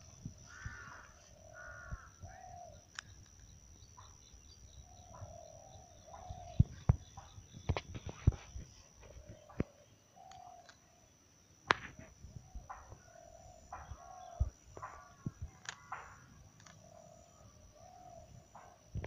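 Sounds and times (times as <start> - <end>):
birds calling: 0.0 - 11.1, 11.8 - 18.8
faint high whine: 0.0 - 19.0.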